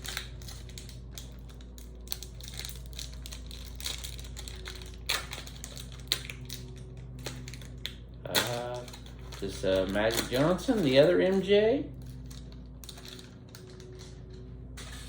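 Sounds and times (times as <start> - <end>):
cards rustling and clicking: 0.0 - 15.0
low hum: 0.0 - 15.0.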